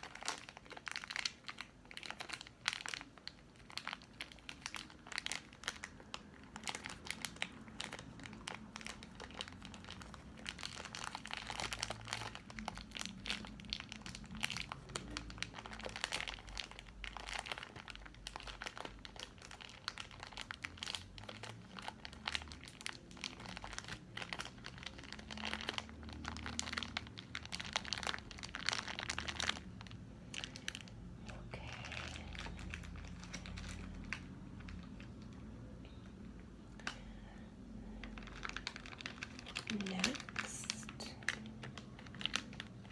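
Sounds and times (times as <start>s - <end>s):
snack packaging crinkling: 0.0s - 42.9s.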